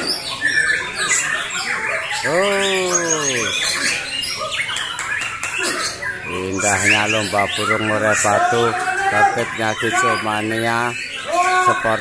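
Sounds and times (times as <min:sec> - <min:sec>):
caged birds singing: 0:00.0 - 0:12.0.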